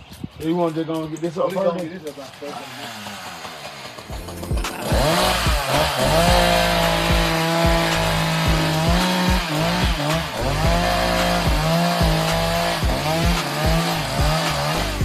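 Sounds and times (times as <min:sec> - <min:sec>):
chainsaw revving and cutting: 0:01.5 - 0:15.0.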